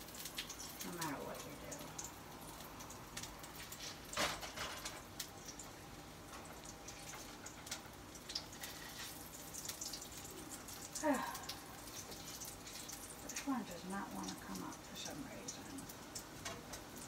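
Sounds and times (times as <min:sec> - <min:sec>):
oil crackling and spitting in a pan: 0:00.0 - 0:17.0.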